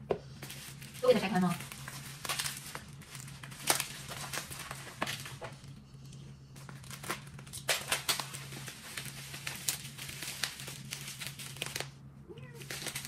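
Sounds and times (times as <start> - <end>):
faint low hum: 0.0 - 13.0
bubble wrap crinkling: 0.2 - 13.0.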